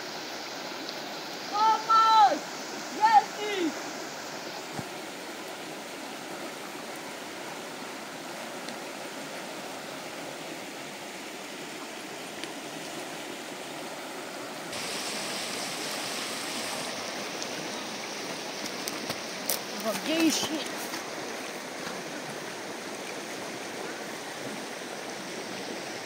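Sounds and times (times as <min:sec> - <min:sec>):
river rushing over stones: 0:00.0 - 0:26.0.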